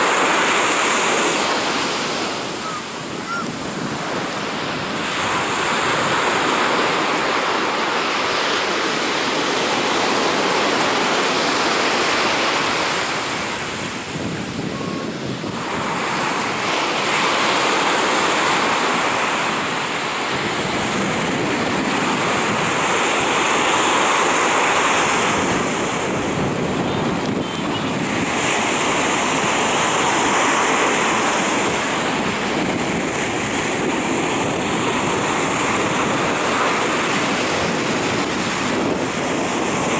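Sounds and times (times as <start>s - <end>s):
sea surf breaking: 0.0s - 39.9s.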